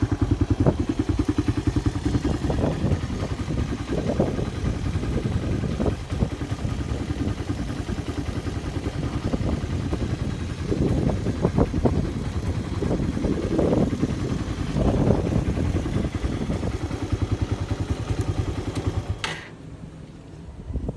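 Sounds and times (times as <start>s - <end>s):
motorcycle engine idling: 0.0s - 19.6s.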